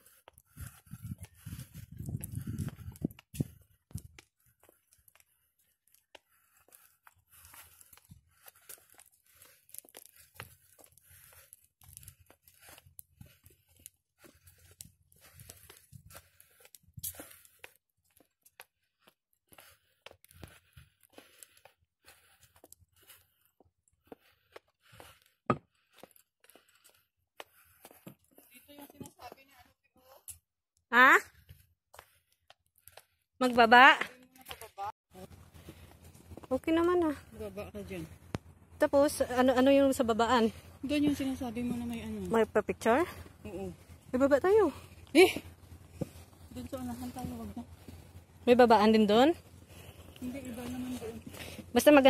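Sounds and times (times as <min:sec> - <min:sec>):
footsteps on paved path: 0:00.0 - 0:52.0.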